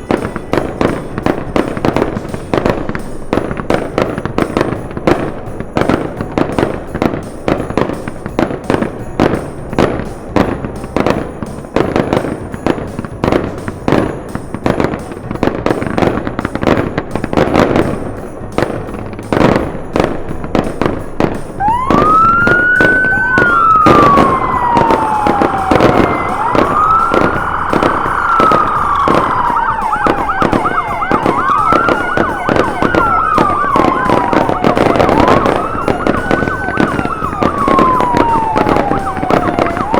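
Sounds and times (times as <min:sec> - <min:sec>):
fireworks bangs and crackles: 0:00.0 - 0:39.9
police sirens wailing: 0:00.0 - 0:39.9.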